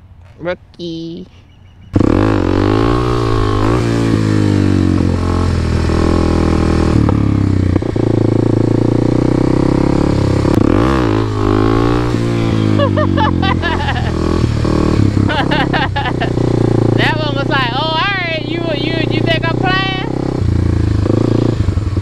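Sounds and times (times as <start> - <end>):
motorcycle engine accelerating: 1.8 - 22.0.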